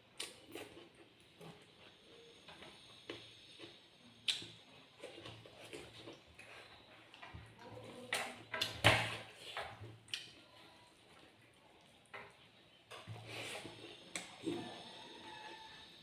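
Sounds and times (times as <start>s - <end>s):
person chewing with wet crunches: 0.0s - 16.0s.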